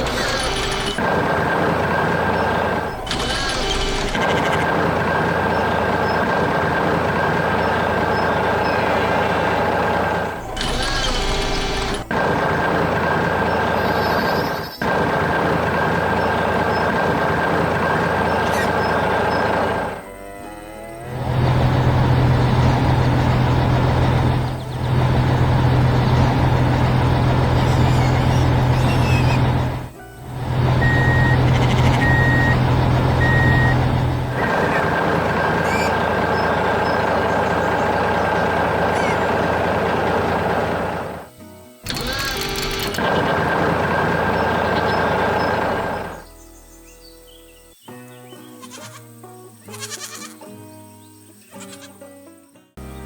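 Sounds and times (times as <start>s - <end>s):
heavy construction machine running: 0.0s - 20.3s, 21.0s - 46.4s
heavy vehicle engine rumbling: 0.0s - 46.4s.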